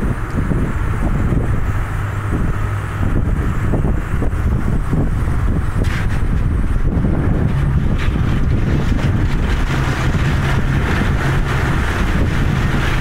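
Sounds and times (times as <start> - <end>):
low rumble: 0.0 - 13.0
ship engine hum: 0.0 - 13.0
wind buffeting microphone: 0.0 - 13.0.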